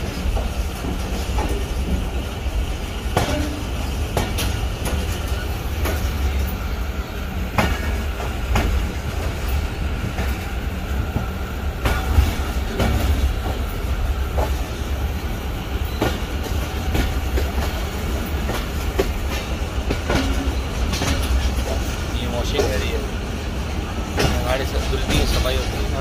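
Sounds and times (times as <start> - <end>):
train rumbling: 0.0 - 26.0
wheels clacking over rail joints: 0.0 - 26.0.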